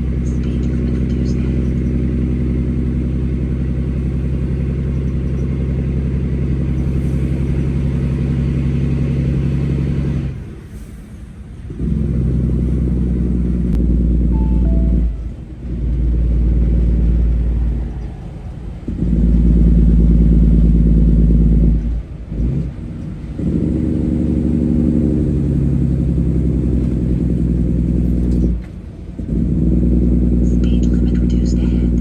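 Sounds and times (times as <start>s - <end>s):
truck diesel engine under load: 0.0s - 32.0s.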